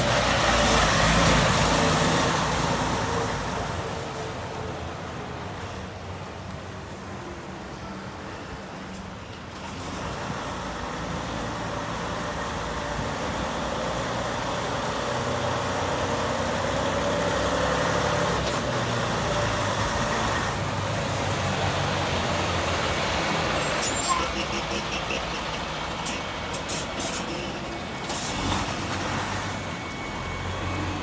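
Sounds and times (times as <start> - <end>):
diesel truck engine running: 0.0 - 5.6, 9.7 - 31.0.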